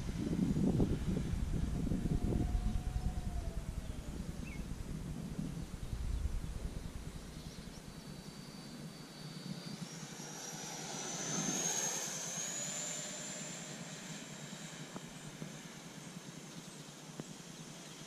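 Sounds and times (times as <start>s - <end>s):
model jet ducted fans whining: 0.0s - 18.0s.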